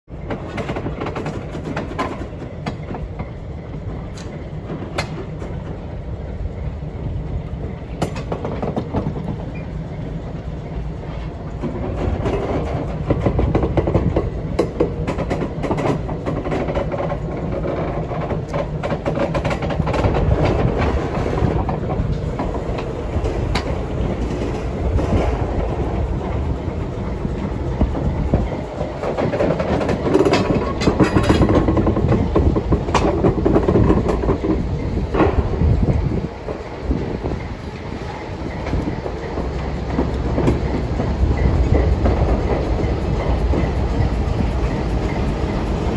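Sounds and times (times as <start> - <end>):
diesel locomotive engine running: 0.1 - 45.9
train wheels clicking on rails: 0.1 - 45.9.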